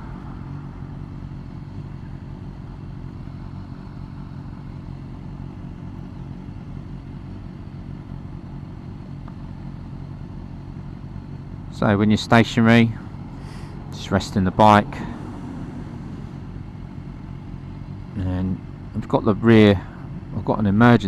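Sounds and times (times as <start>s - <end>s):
motorcycle engine running: 0.0s - 21.0s
road or wind noise: 0.0s - 21.0s.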